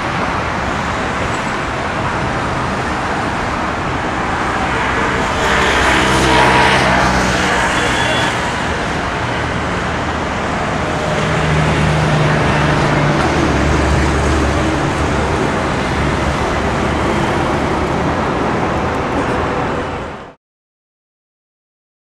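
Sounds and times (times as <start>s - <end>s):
road traffic passing: 0.0s - 20.4s.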